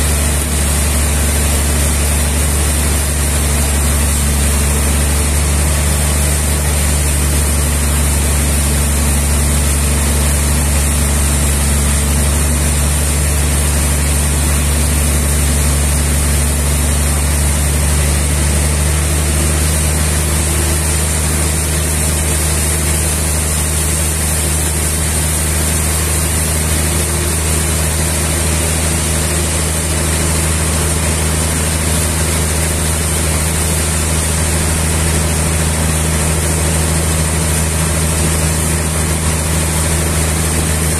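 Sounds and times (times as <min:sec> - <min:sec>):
sawmill machinery hum and hiss: 0:00.0 - 0:40.9.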